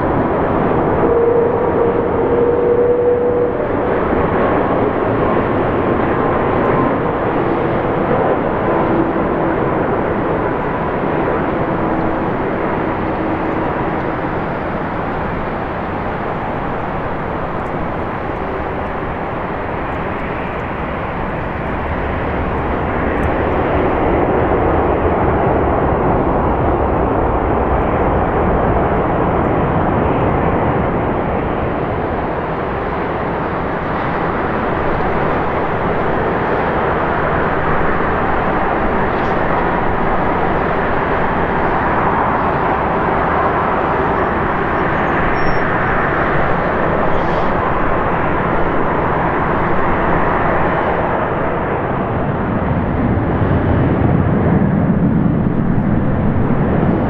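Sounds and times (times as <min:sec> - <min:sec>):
faint engine whine: 0:00.0 - 0:57.0
jet engine rush: 0:00.0 - 0:57.0.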